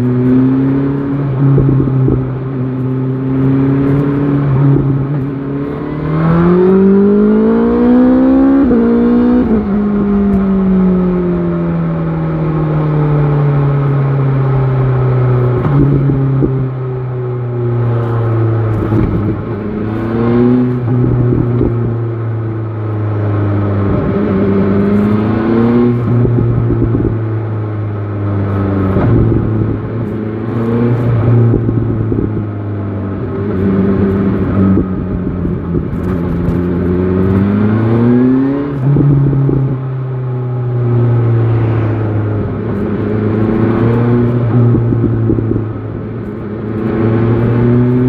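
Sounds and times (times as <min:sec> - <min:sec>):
motorcycle engine revving: 0:00.0 - 0:12.4, 0:13.4 - 0:48.0.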